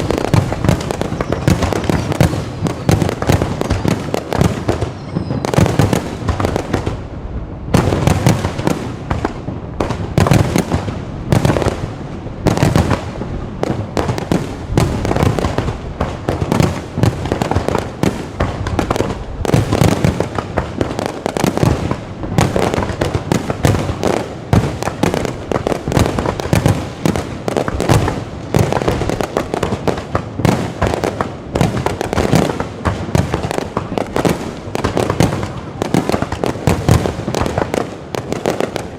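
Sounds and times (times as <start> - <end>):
fireworks barrage bangs: 0.0 - 38.9.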